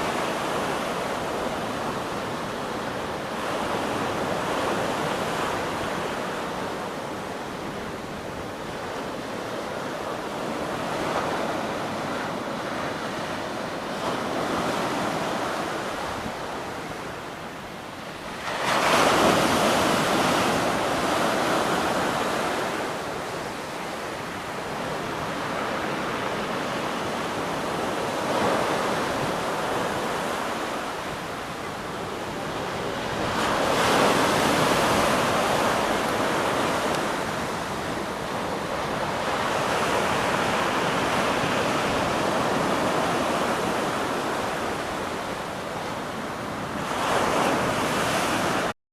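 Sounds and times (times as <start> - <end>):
sea waves breaking ashore: 0.0 - 48.8.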